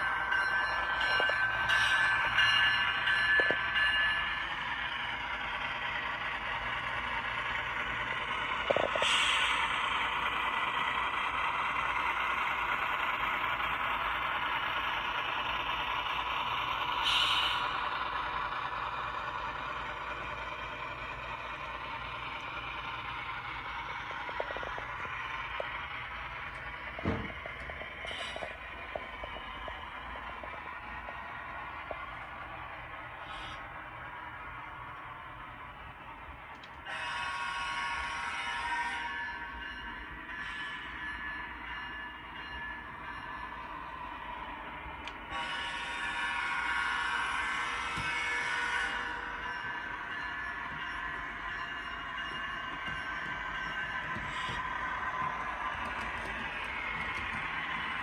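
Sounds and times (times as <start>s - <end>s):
model locomotive engine sound: 0.0s - 58.0s.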